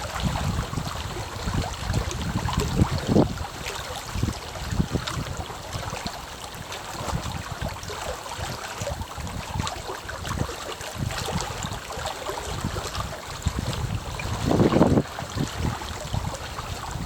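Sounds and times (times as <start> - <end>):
small waves lapping: 0.0 - 17.0
water splashes: 0.0 - 17.0
wind on microphone: 0.0 - 17.0.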